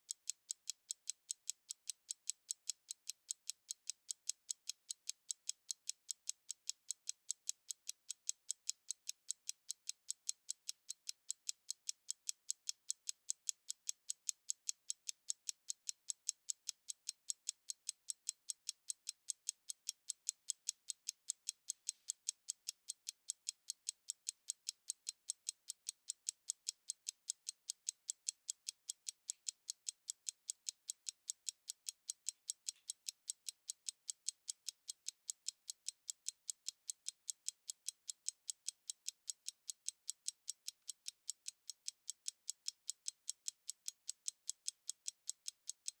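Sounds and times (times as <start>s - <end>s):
stopwatch ticking: 0.2s - 46.0s.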